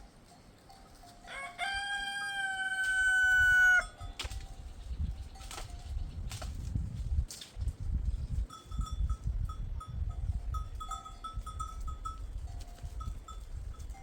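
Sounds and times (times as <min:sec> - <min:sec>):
sheep bells clinking: 0:00.0 - 0:06.0, 0:08.0 - 0:14.0.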